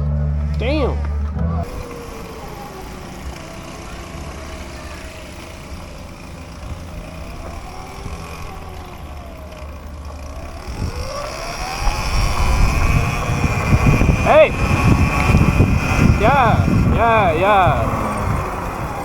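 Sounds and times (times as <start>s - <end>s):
small electric motor whine: 1.6s - 17.0s, 17.8s - 19.0s.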